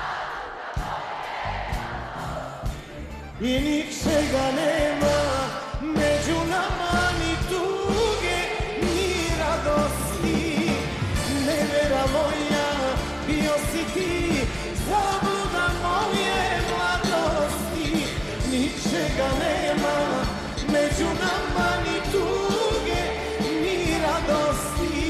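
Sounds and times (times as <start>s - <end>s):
drum kit and percussion: 0.0s - 25.0s
person singing: 3.4s - 25.0s.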